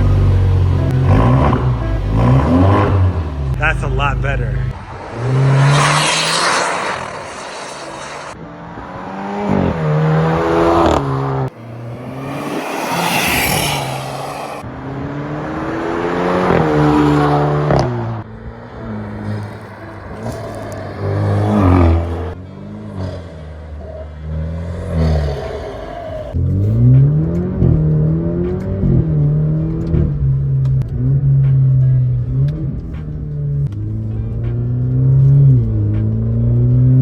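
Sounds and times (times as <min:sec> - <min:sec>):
car engine accelerating through gears: 0:00.0 - 0:37.0.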